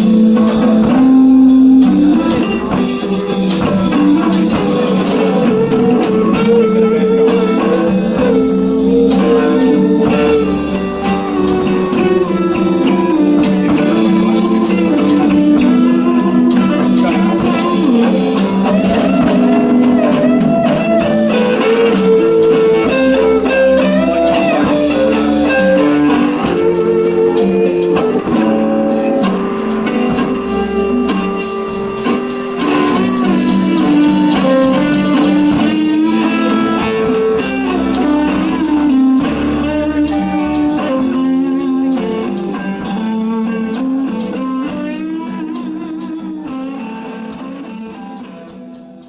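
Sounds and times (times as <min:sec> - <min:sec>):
bluesy instrumental guitar: 0:00.0 - 0:49.0.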